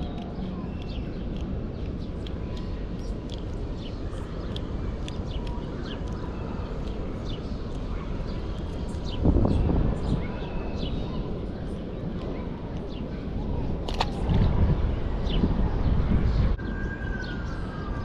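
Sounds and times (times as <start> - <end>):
outdoor background hum: 0.0 - 18.0
small birds chirping: 0.0 - 18.0.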